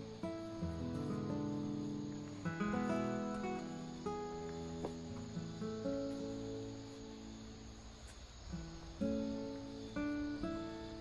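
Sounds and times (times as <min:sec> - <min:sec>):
acoustic guitar notes plucked: 0:00.0 - 0:07.9, 0:08.5 - 0:11.0.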